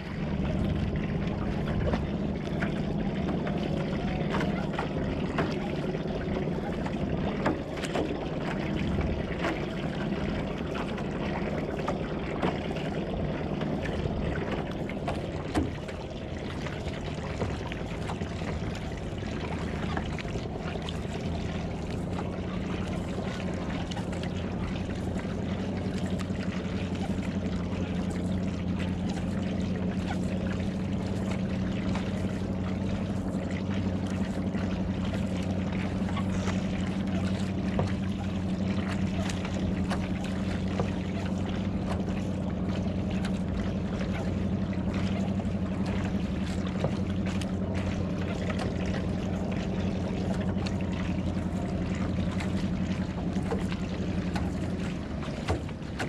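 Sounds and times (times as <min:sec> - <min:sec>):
low steady hum: 0:00.0 - 0:56.0
paddle blade splashing: 0:00.0 - 0:56.0
water rushing along hull: 0:00.0 - 0:56.0.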